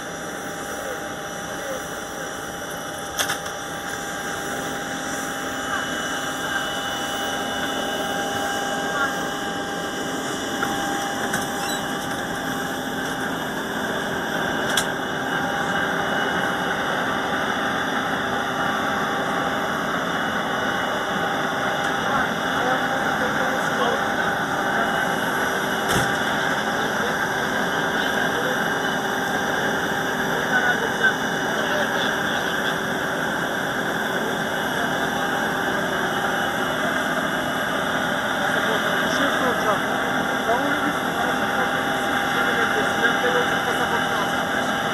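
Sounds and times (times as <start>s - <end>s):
engine drone: 0.0s - 44.9s.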